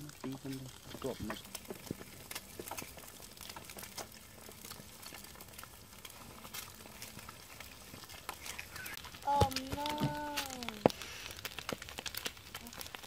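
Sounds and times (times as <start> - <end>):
crackles and pops: 0.0 - 13.0
eggs sizzling in a pan: 0.0 - 13.0.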